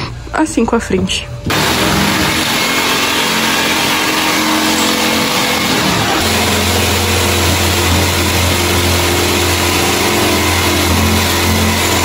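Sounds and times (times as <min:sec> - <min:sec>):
jigsaw sawing plywood: 0:01.5 - 0:12.0.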